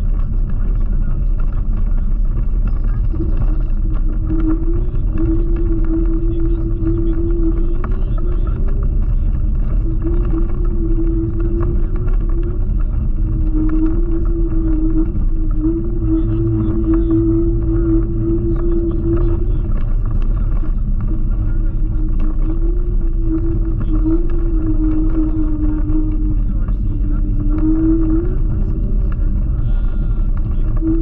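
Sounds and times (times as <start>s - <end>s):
steady hum: 0.0s - 31.0s
tyre rumble: 0.0s - 31.0s
wind buffeting: 0.0s - 31.0s.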